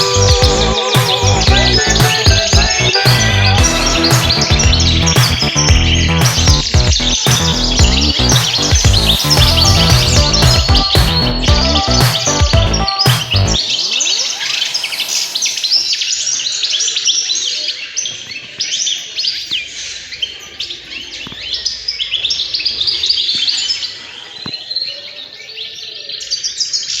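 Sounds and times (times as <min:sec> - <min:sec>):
cage birds chirping: 0:00.0 - 0:27.0.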